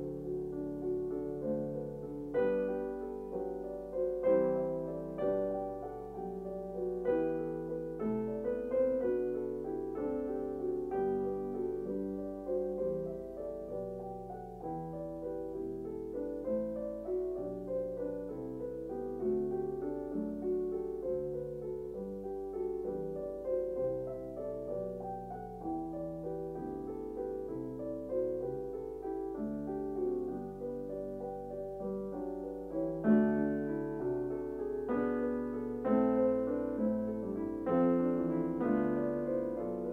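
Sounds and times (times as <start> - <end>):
gentle solo piano piece: 0.0 - 39.9.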